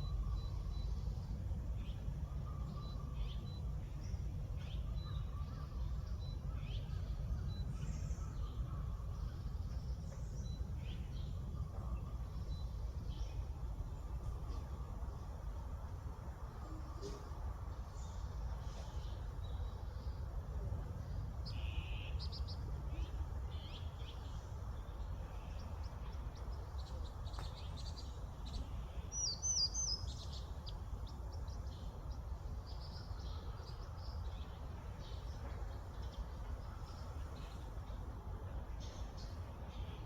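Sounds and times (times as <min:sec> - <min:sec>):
songbirds chirping: 0:00.0 - 0:40.0
steady low rumble: 0:00.0 - 0:40.0.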